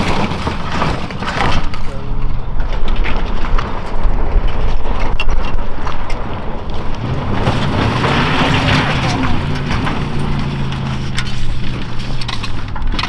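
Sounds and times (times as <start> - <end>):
truck engine under load: 0.0 - 13.0
wind noise on microphone: 1.8 - 13.0.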